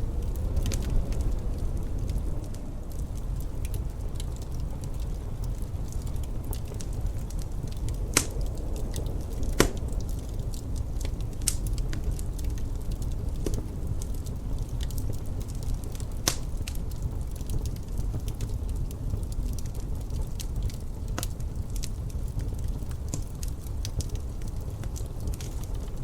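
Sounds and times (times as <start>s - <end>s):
fire popping: 0.0s - 26.0s
wind rumbling: 0.0s - 26.0s
wood fire crackling: 0.0s - 26.0s.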